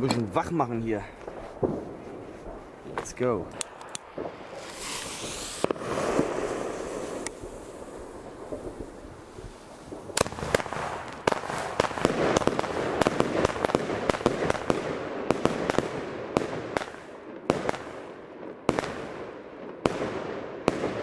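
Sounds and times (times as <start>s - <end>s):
firework bangs: 1.0s - 21.0s
firework crackle: 1.0s - 21.0s.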